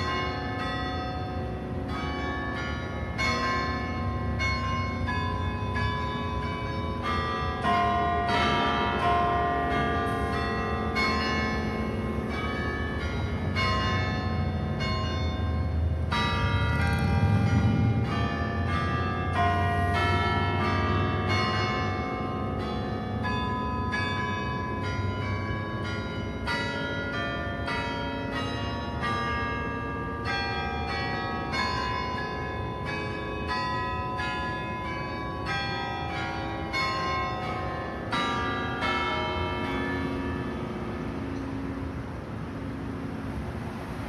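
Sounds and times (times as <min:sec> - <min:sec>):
church bells pealing: 0:00.0 - 0:44.0.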